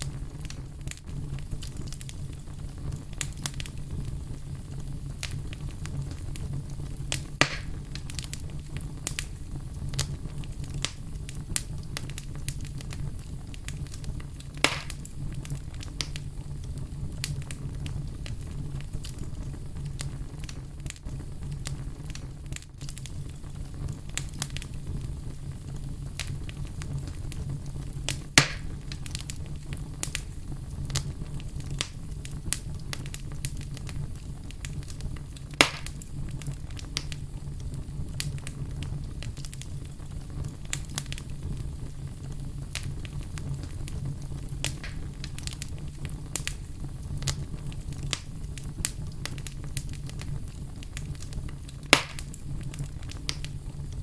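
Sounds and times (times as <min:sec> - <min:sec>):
fire crackling: 0:00.0 - 0:54.0
fire popping loudly: 0:00.0 - 0:54.0.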